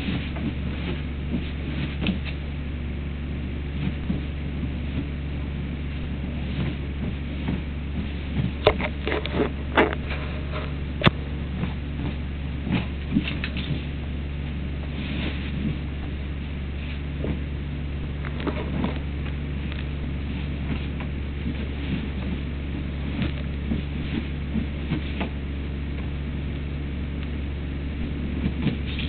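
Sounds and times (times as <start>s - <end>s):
dog claws scratching couch: 0.0s - 2.6s, 3.7s - 17.5s, 18.1s - 26.2s, 28.2s - 29.0s
steady low hum: 0.0s - 29.0s.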